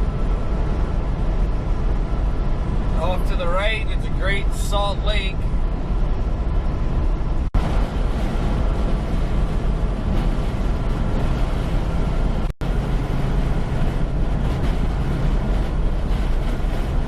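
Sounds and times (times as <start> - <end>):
diesel engine drone: 0.0 - 17.0
road and wind noise: 0.0 - 17.0.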